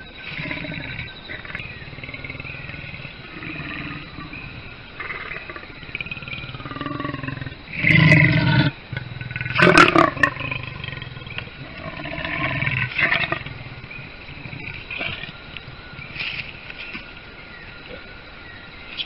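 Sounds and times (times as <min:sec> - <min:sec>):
leopard growling and snarling: 0:00.2 - 0:16.0.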